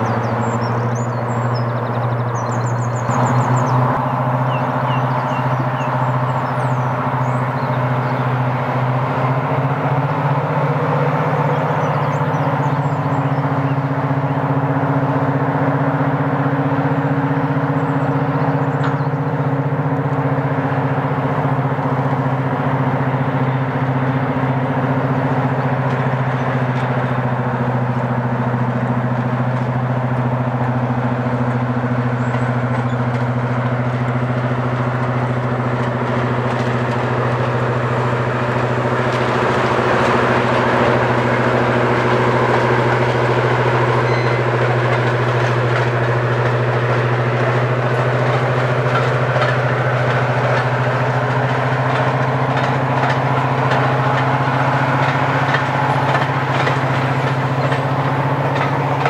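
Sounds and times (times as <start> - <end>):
train engine humming: 0.0 - 59.0.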